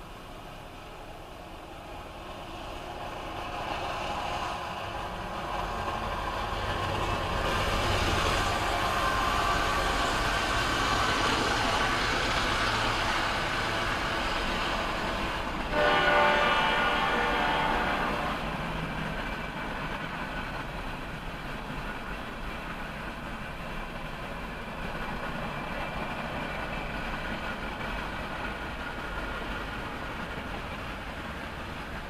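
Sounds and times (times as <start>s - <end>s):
diesel locomotives running: 0.0s - 32.0s.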